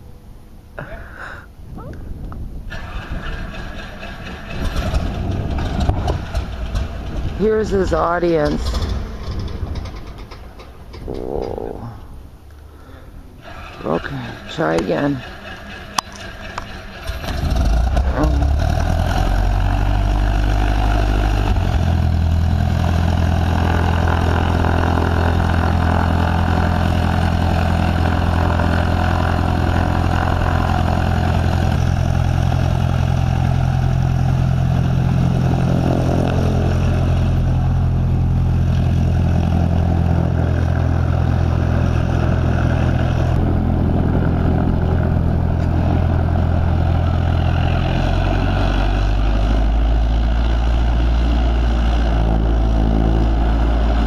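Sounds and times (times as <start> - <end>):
airplane engine idling: 0.0 - 54.0.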